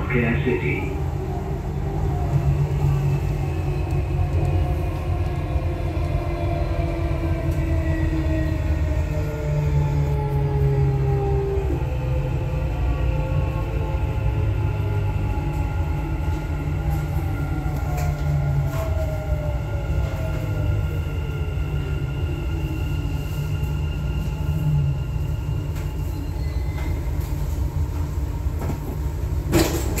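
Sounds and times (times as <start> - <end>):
train rumble and motor whine: 0.0 - 30.0.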